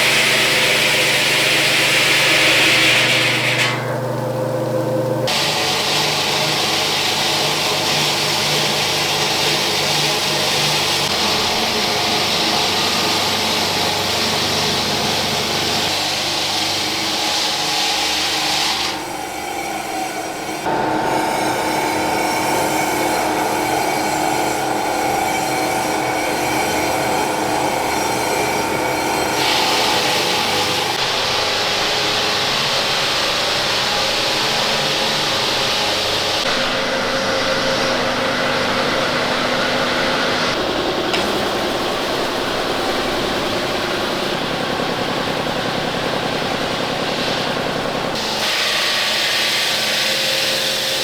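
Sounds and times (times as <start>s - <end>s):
machine cutting and rasping: 0.0s - 4.1s, 5.3s - 51.0s.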